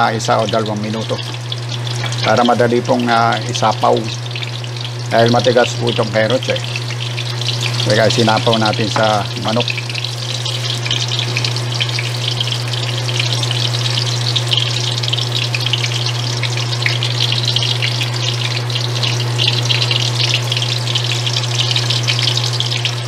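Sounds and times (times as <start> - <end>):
carrots sizzling in hot oil: 0.0 - 23.0
steady low hum: 0.0 - 23.0.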